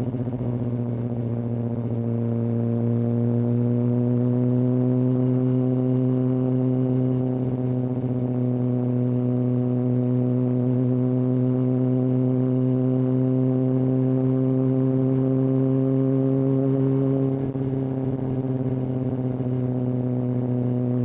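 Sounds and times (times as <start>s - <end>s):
motorcycle engine droning: 0.0s - 21.0s.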